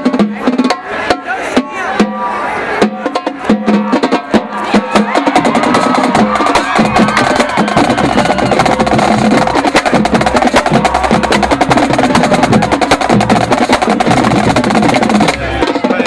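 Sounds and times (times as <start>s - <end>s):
tenor drums: 0.0s - 16.0s
bass drums: 2.9s - 16.0s.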